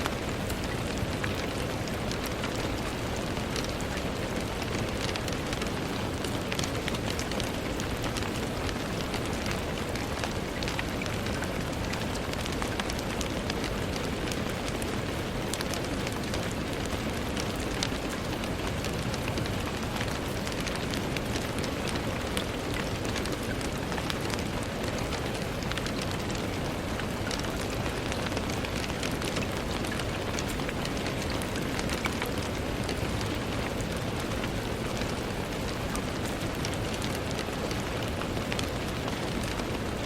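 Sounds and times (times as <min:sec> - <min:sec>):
rain on a window: 0:00.0 - 0:40.0.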